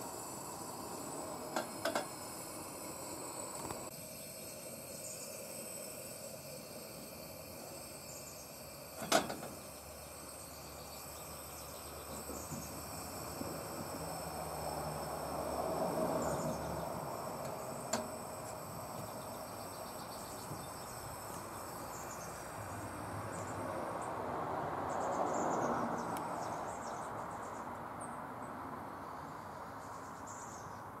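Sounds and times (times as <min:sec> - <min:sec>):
gas lantern burner hissing: 0:00.0 - 0:27.6.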